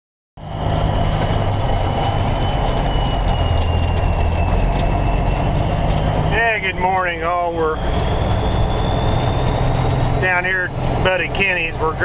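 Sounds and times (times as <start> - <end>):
diesel truck engine idling: 0.4 - 12.0.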